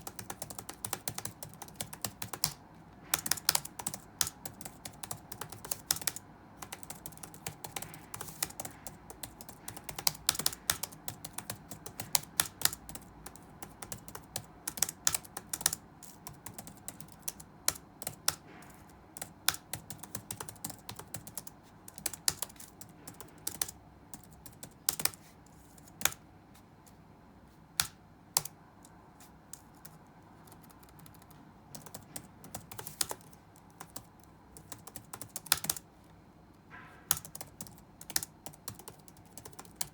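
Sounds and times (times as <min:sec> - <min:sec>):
typing on computer keyboard: 0:00.0 - 0:26.2, 0:27.8 - 0:35.8, 0:37.1 - 0:39.9.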